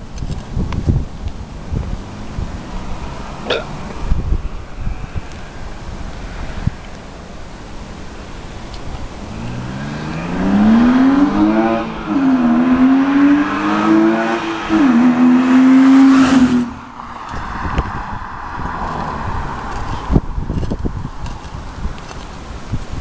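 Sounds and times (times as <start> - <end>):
car engine accelerating hard: 1.5 - 21.3.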